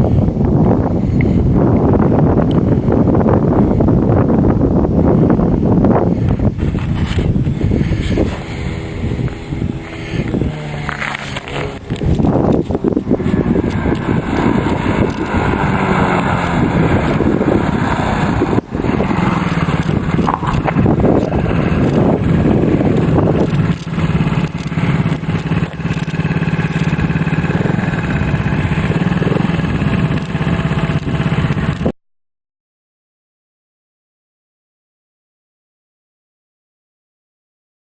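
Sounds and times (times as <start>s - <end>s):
quad engine revving: 0.4s - 31.9s.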